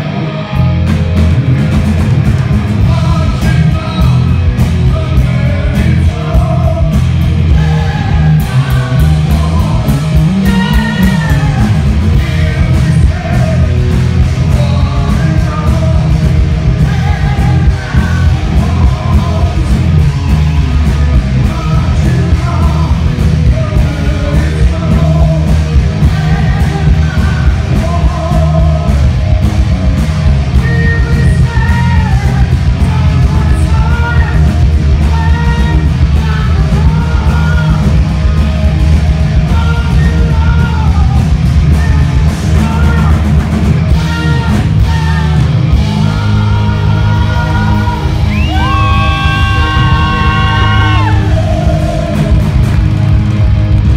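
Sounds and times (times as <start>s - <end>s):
live hard rock band: 0.0s - 53.9s
person singing: 2.8s - 29.1s, 30.4s - 38.3s, 39.2s - 43.3s, 43.9s - 52.7s.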